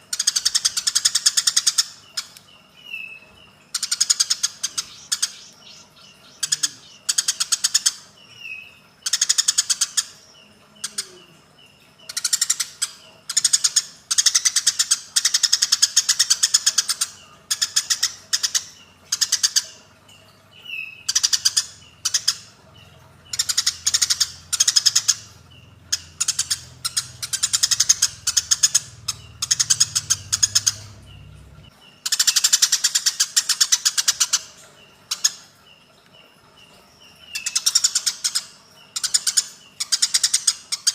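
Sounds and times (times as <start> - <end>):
sparrows chirping harshly: 0.0 - 40.9.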